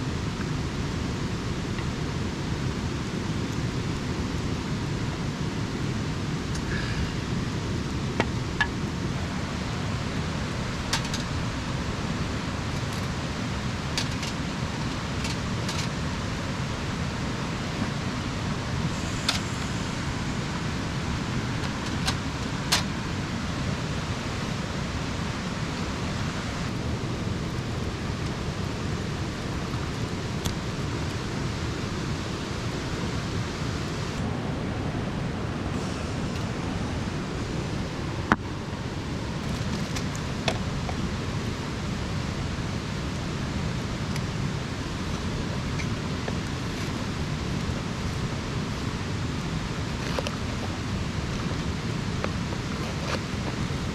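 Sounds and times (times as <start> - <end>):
campfire hissing: 0.0 - 53.9.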